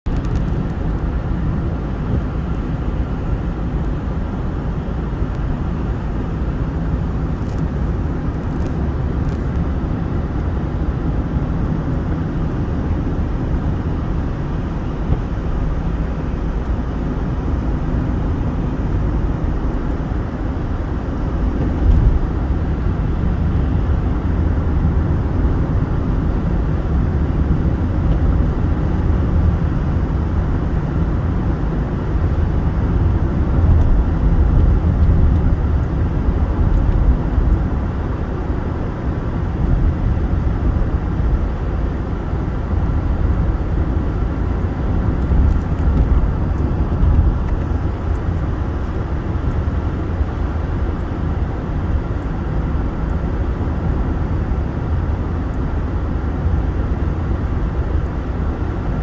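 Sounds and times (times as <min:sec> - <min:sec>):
wind rumbling on microphone: 0:00.1 - 0:59.0.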